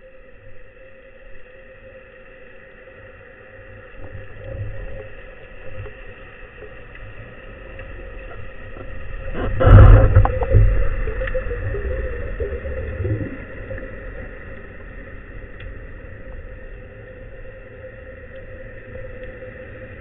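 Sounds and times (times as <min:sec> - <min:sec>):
faint steady hum: 0:00.0 - 0:20.0
underwater rumbling water: 0:00.0 - 0:20.0.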